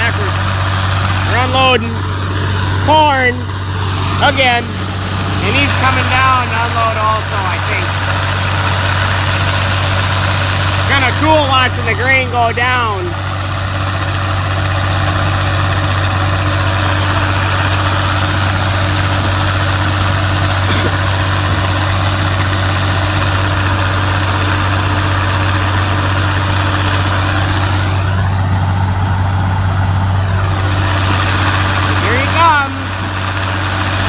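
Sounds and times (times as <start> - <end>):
combine engine and auger droning: 0.0 - 34.0.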